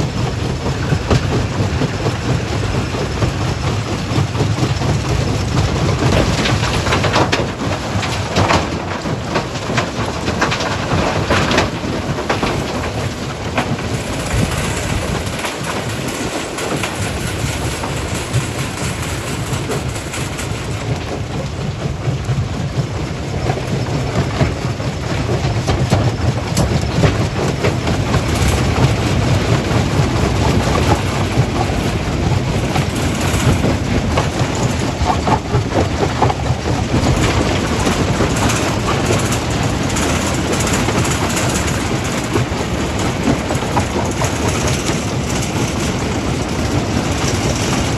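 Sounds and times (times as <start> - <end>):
rattling and clatter of rock: 0.0 - 47.9.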